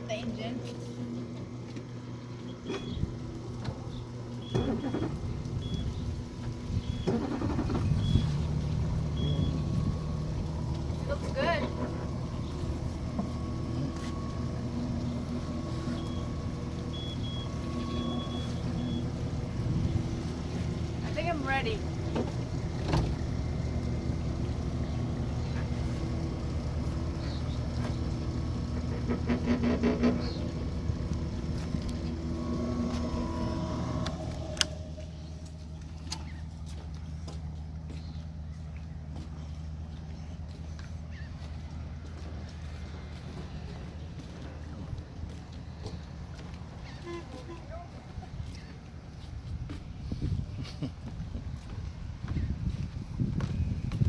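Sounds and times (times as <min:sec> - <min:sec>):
small boat engine idling: 0:00.0 - 0:54.0.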